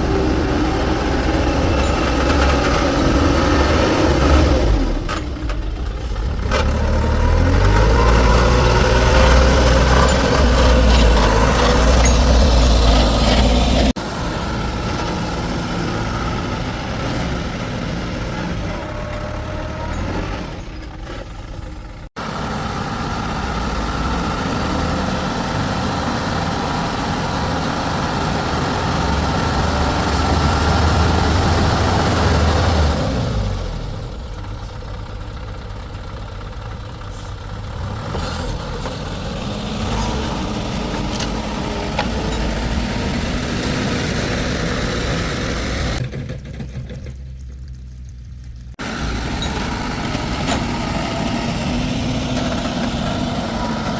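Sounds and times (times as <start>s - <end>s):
heavy vehicle engine rumble: 0.0s - 53.9s.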